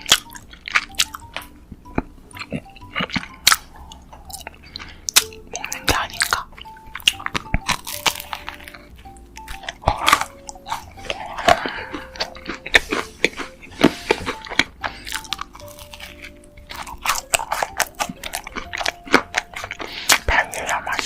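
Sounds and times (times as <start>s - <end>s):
crunchy biting and chewing: 0.0s - 21.0s
soft background music: 0.0s - 21.0s.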